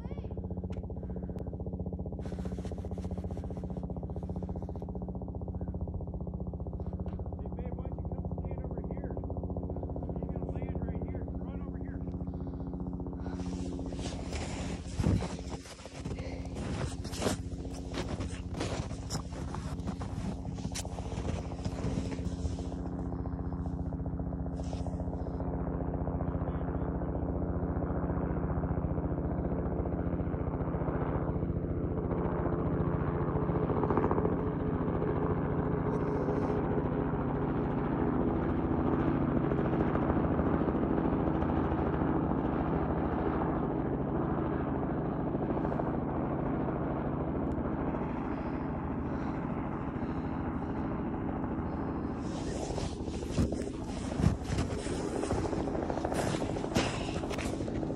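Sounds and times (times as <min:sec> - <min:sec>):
helicopter flying past: 0:00.0 - 0:57.9.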